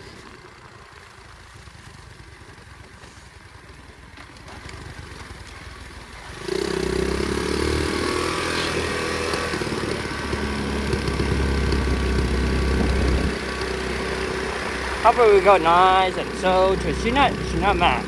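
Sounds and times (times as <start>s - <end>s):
pit bike engine running: 0.0s - 18.0s.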